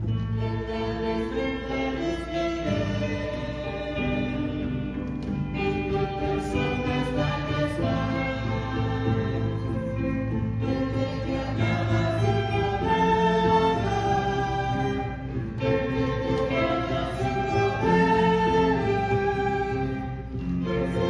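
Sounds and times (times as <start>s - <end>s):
choir singing sustained chords: 0.0s - 21.0s
orchestral accompaniment: 0.0s - 21.0s.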